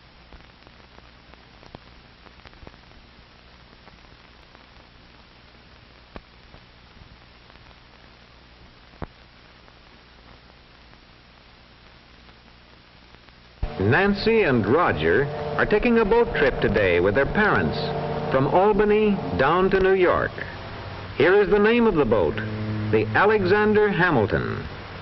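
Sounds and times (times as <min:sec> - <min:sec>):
film soundtrack hiss: 0:00.0 - 0:25.0
low mains hum: 0:00.0 - 0:25.0.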